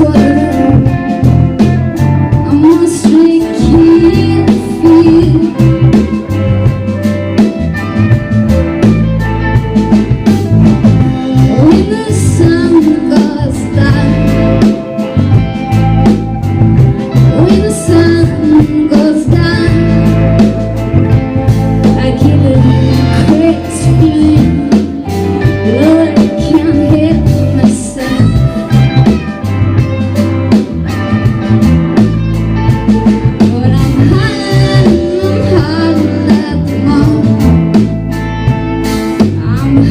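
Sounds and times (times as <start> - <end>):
live country-rock band: 0.0 - 39.9.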